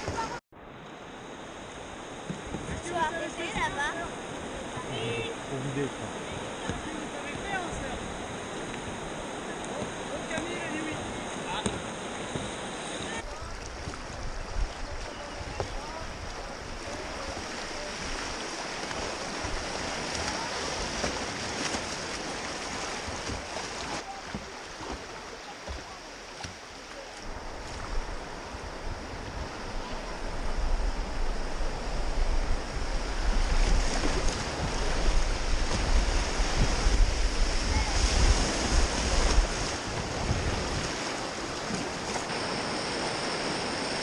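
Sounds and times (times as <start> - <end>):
river current rushing and splashing: 0.0 - 44.0
paddle strokes in water: 1.6 - 44.0
wind buffeting microphone: 2.2 - 23.5, 27.2 - 44.0.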